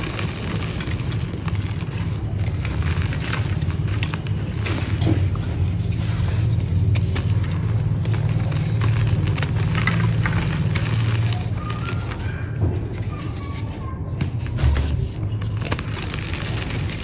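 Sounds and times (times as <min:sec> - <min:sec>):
dry dirt crumbling: 0:00.0 - 0:17.0.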